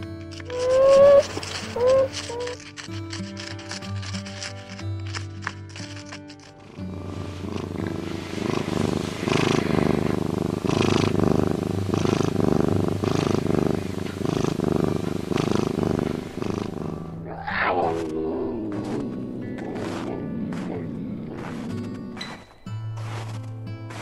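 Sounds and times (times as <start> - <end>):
lynx purring: 0.0 - 24.0.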